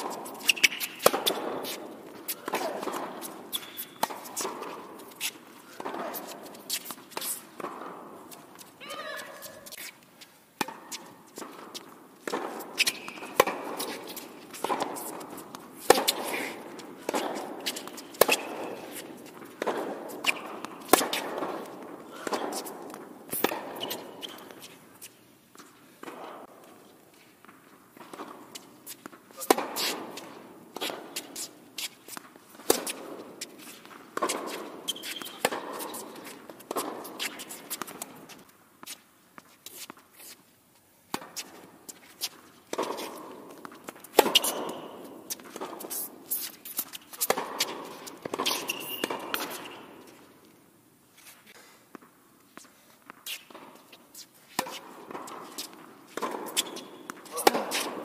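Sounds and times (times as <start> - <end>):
racket hitting tennis ball: 0.0 - 10.0, 10.6 - 26.8, 27.4 - 40.0, 41.1 - 50.5, 51.9 - 58.0
tennis ball bouncing: 0.0 - 10.0, 10.6 - 24.8, 27.4 - 38.5, 41.1 - 50.5, 53.0 - 58.0
footsteps on court: 0.0 - 40.4, 41.1 - 58.0.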